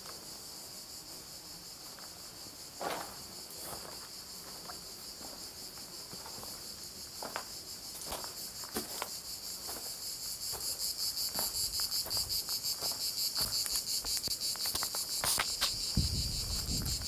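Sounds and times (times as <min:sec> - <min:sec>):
insects chirring: 0:00.0 - 0:17.0
footsteps on stony ground: 0:02.8 - 0:17.0.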